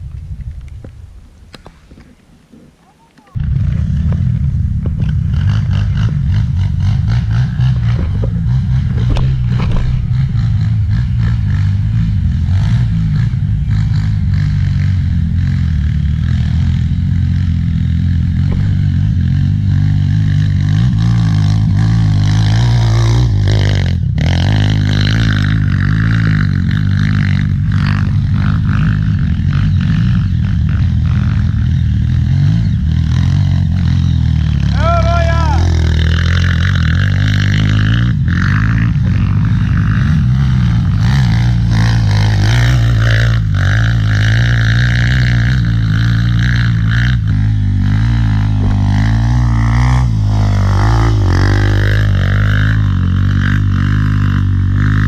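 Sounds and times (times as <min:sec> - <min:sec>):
motorcycle engine running: 0:02.8 - 0:55.0.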